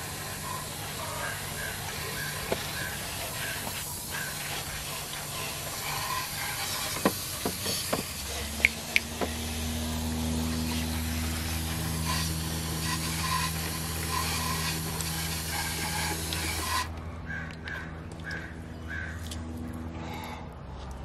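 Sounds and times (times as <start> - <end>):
hose nozzle spraying water: 0.0 - 16.9
steady low hum: 0.0 - 21.0.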